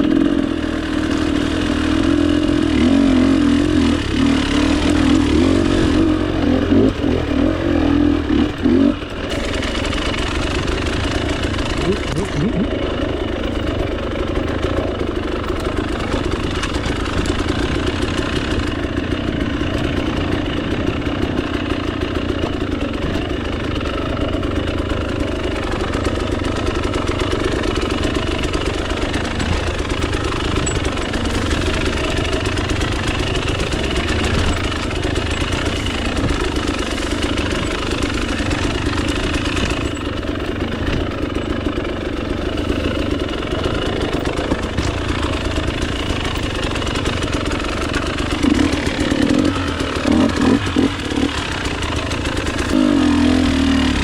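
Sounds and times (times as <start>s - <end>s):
two-stroke dirt bike idling: 0.0s - 54.0s.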